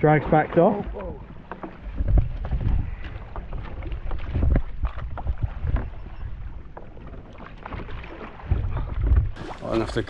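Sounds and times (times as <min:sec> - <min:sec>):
water splashing against kayak hull: 0:00.0 - 0:10.0
wind buffeting microphone: 0:00.0 - 0:10.0.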